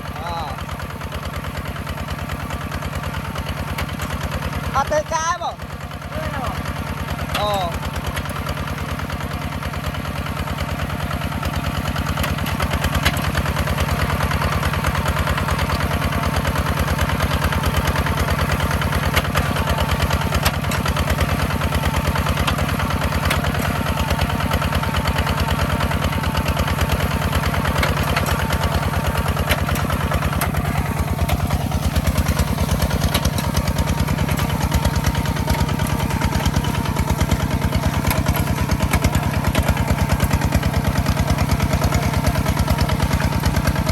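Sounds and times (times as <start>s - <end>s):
farm machine engine running: 0.0s - 43.9s.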